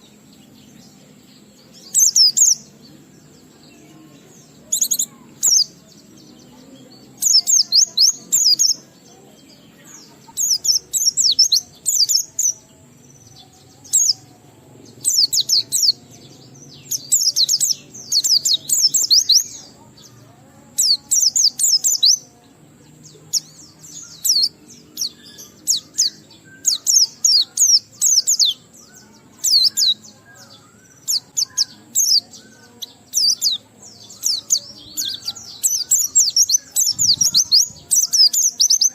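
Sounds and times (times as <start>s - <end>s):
bird singing high chirping phrases: 0.0s - 38.9s.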